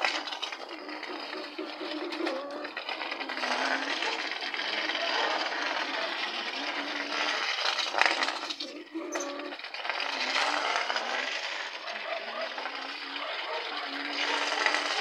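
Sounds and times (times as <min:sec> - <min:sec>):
wire toy car rattling on bricks: 0:00.0 - 0:15.0.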